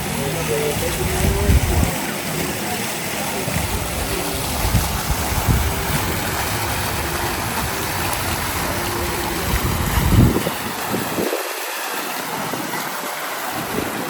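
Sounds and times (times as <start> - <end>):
rain hiss: 0.0 - 14.0
wind buffeting microphone: 0.0 - 14.0.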